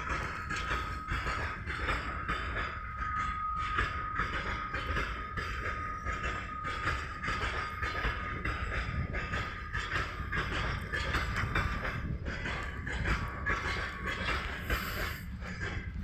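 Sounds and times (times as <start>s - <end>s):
freight train wagons rumbling: 0.0s - 16.0s
thin steady squeal: 0.0s - 16.0s
wheels knocking over rail joints: 0.0s - 16.0s.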